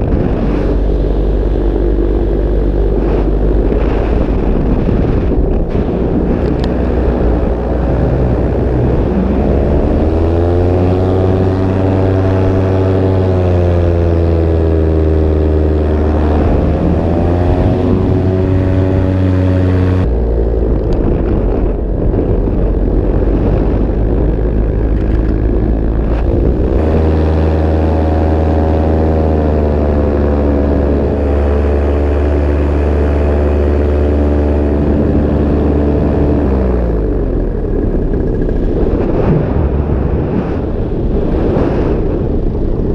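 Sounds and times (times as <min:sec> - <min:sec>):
paramotor engine and propeller: 0:00.0 - 0:42.9.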